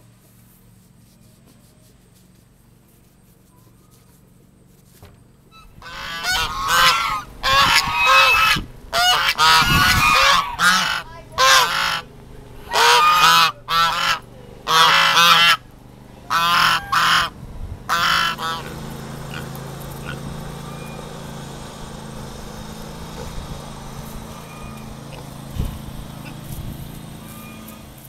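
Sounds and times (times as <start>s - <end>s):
steady low hum: 0.0s - 28.0s
geese honking: 5.5s - 28.0s.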